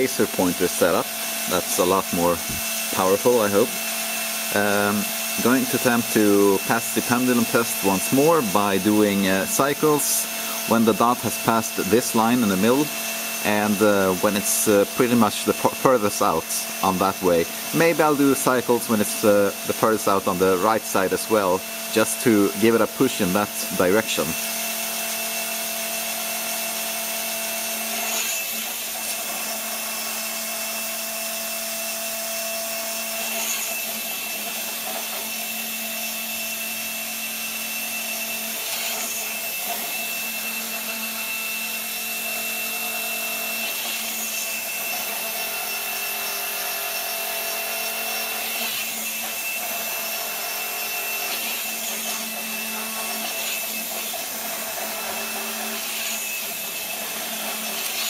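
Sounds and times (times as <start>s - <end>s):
electric motors whining: 0.0s - 58.0s.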